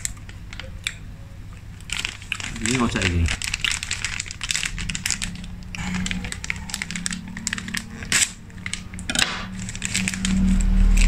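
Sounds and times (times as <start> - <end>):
low steady hum: 0.0 - 11.0
plastic snack bag crinkling: 1.7 - 11.0.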